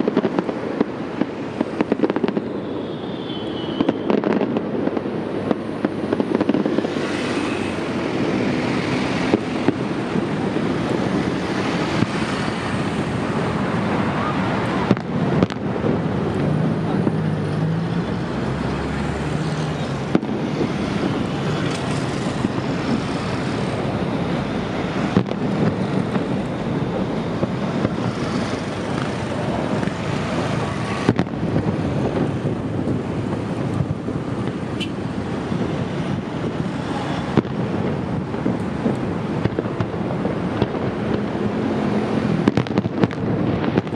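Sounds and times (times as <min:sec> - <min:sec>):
faint sharp bangs: 0:00.0 - 0:07.8, 0:08.7 - 0:18.4, 0:19.7 - 0:43.9
road traffic: 0:00.0 - 0:43.9
wind on microphone: 0:00.0 - 0:43.9.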